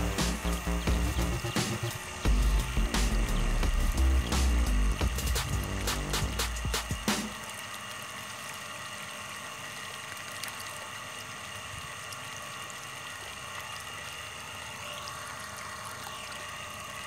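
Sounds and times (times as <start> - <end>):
electric pump motor whine: 0.0 - 17.0
water gushing from pipe: 0.0 - 17.0.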